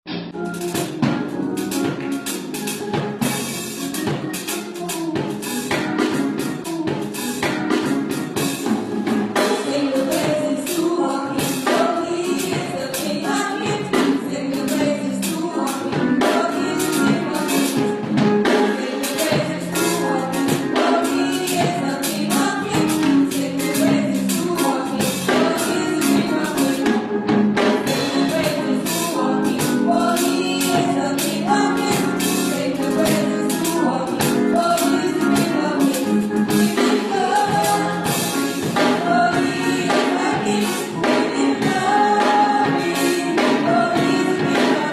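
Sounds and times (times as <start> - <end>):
drums: 0.1 - 44.9
people singing: 3.2 - 44.9.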